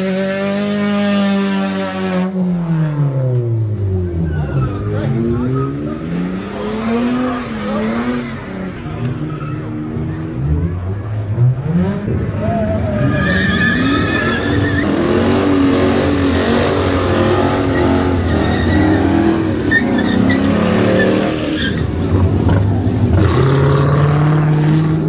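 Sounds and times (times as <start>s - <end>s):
car engine revving: 0.0s - 25.0s
tyres squealing: 2.6s - 11.2s, 12.1s - 25.0s.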